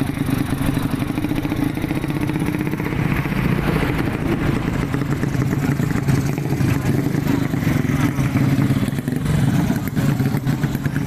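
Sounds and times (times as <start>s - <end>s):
motorcycle engine running loudly: 0.0s - 11.0s.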